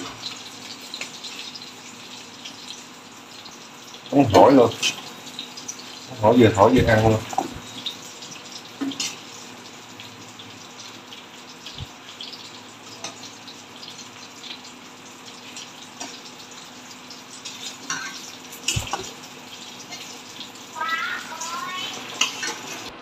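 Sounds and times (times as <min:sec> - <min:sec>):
fish sizzling in oil: 0:00.0 - 0:23.0.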